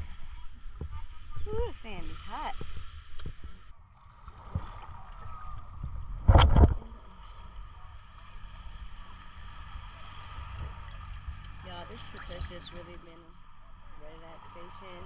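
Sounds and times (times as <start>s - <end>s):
sea water washing at shore: 0.0s - 15.0s.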